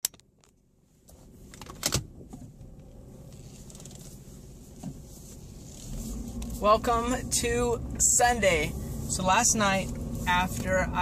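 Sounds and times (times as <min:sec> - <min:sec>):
car engine rumble inside cabin: 0:00.3 - 0:11.0.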